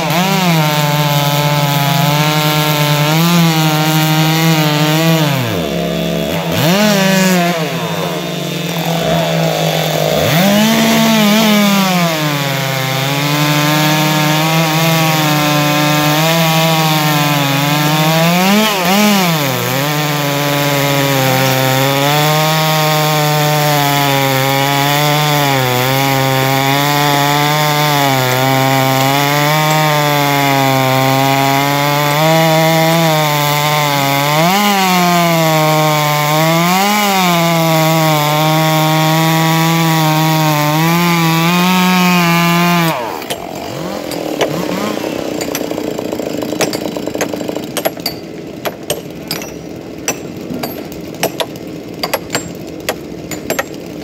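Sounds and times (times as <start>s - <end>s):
chainsaws cutting logs: 0.0s - 54.0s.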